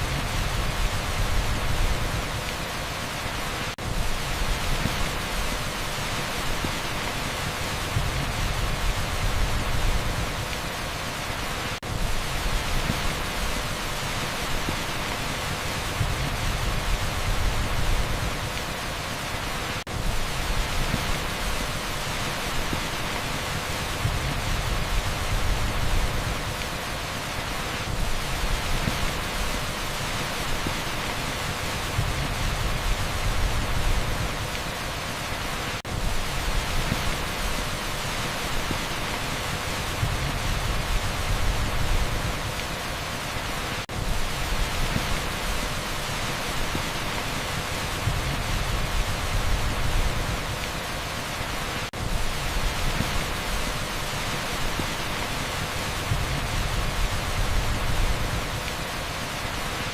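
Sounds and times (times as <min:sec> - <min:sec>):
heavy rain on asphalt: 0:00.0 - 0:59.9.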